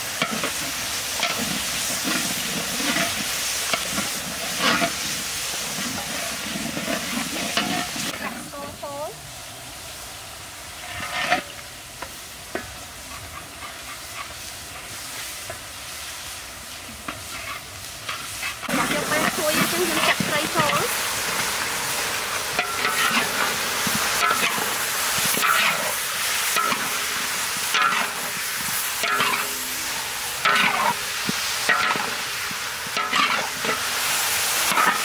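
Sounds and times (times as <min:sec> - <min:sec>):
oil sizzling in a wok: 0:00.0 - 0:35.0
metal spatula scraping wok: 0:00.2 - 0:08.7, 0:10.7 - 0:11.6, 0:12.6 - 0:15.0, 0:16.9 - 0:35.0.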